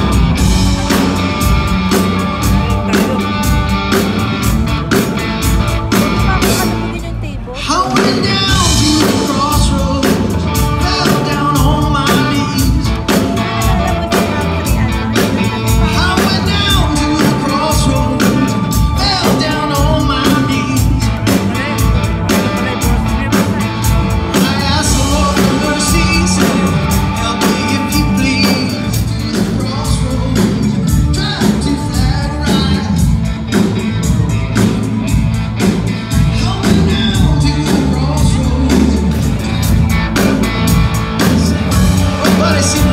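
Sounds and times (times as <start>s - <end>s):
man singing: 0.0s - 4.0s, 7.6s - 34.8s, 36.1s - 42.9s
live blues band playing: 0.0s - 42.9s.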